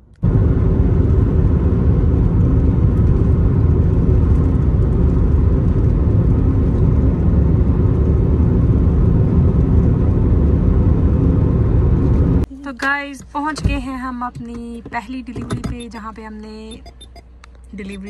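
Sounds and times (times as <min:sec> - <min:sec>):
in-car road and engine rumble: 0:00.0 - 0:18.0.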